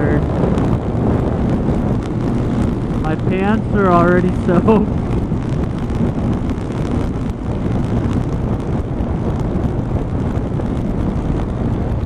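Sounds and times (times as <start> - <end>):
motorcycle engine: 0.0 - 12.0
road noise: 0.0 - 12.0
wind rush over microphone: 0.0 - 12.0.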